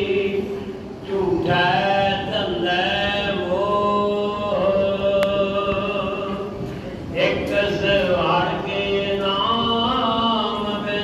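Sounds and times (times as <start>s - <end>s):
men chanting a hymn: 0.0s - 11.0s.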